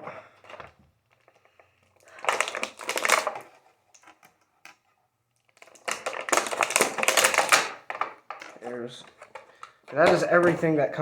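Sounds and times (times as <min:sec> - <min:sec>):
plastic parts rattling and clicking: 0:00.4 - 0:10.7.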